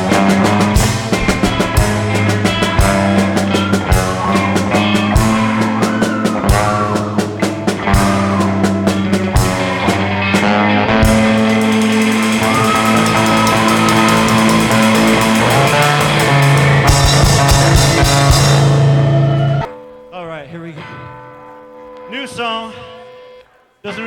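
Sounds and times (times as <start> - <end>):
cymbals washing: 0.0 - 19.7
drum hits: 0.0 - 19.7
rock band playing: 0.0 - 20.0.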